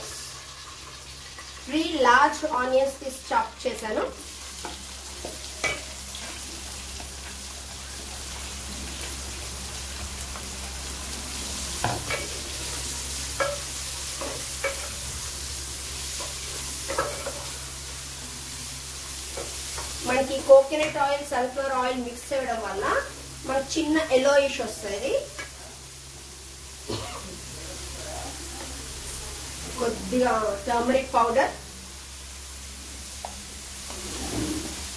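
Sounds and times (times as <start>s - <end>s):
onions sizzling in hot oil: 0.0s - 34.9s.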